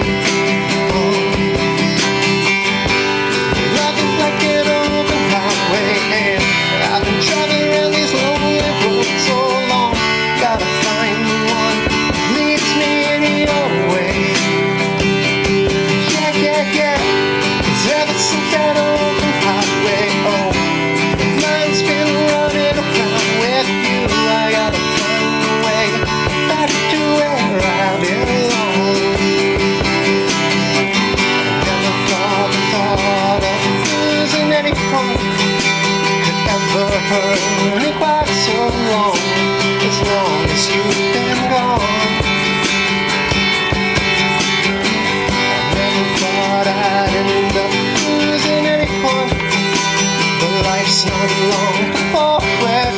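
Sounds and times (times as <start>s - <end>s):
acoustic guitar strummed: 0.0s - 52.9s.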